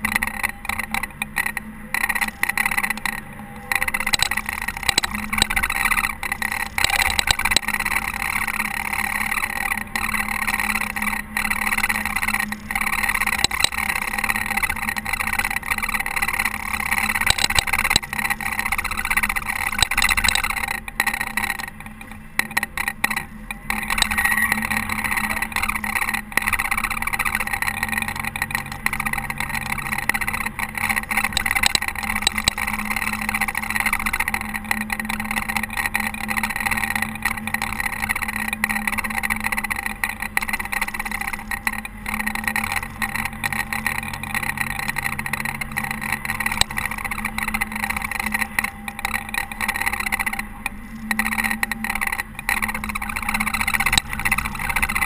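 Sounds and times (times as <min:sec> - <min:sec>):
engine drone: 0:00.0 - 0:55.0
rushing snowplow noise: 0:00.0 - 0:55.0.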